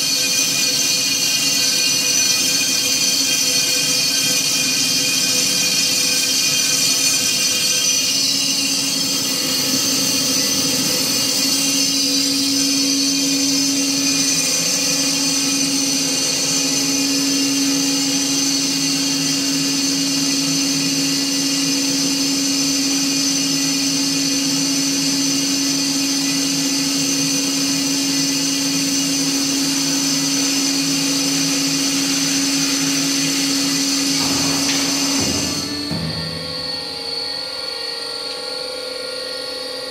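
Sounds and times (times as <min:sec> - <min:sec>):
band saw cutting metal: 0:00.0 - 0:39.4.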